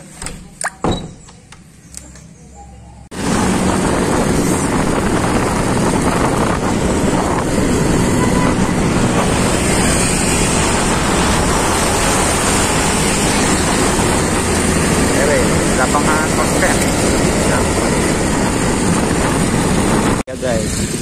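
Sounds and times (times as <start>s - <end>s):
motorcycle engine and road noise: 0.0s - 21.0s
wind rushing over microphone: 3.1s - 21.0s.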